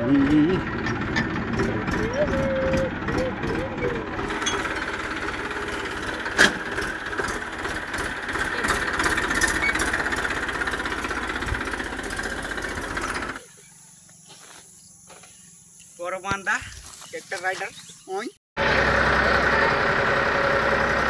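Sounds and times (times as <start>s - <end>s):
tractor engine running: 0.0s - 15.4s, 18.6s - 21.0s.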